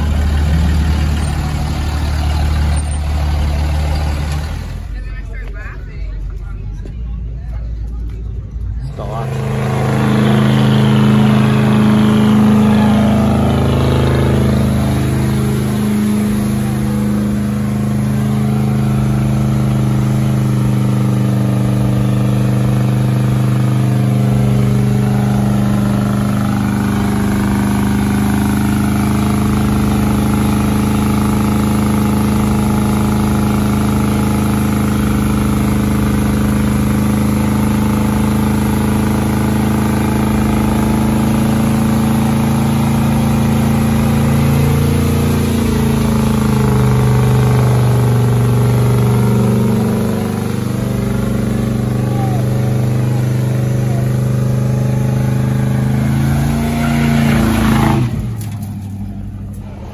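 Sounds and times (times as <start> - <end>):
diesel engine at high revs: 0.0 - 6.5, 8.8 - 59.9.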